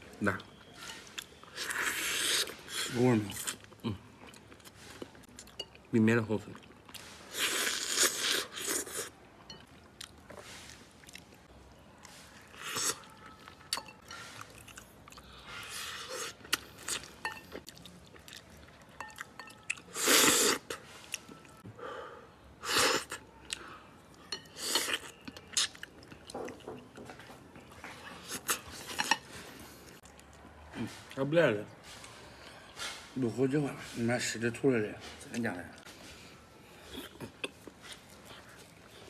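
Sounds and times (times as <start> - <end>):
people chewing and sucking: 0.5 - 5.7, 6.4 - 21.6, 22.6 - 31.2, 35.3 - 39.0.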